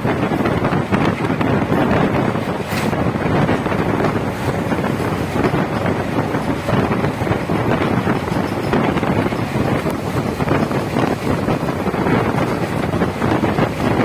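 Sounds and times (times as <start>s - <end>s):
train rumbling on track: 0.0s - 14.0s
wind buffeting microphone: 0.0s - 14.0s.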